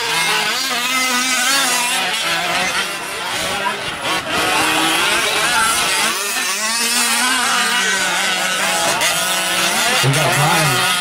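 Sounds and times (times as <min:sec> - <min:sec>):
small two-stroke engines revving: 0:00.0 - 0:11.0.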